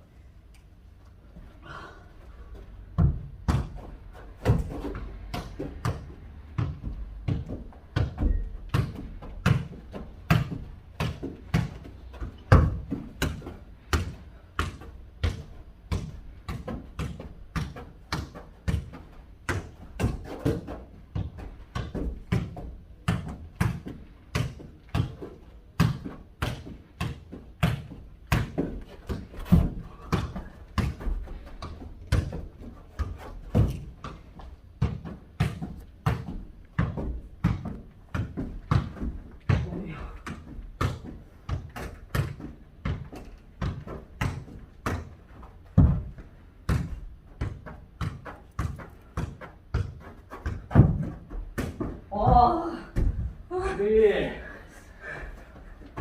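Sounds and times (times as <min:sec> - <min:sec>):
ball kicked and bouncing: 0:02.8 - 0:53.5, 0:55.8 - 0:56.0.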